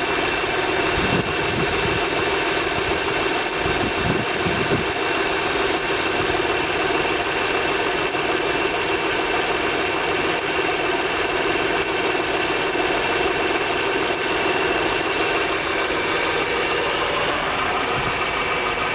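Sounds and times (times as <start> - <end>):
engine idling with knock: 0.0 - 18.9.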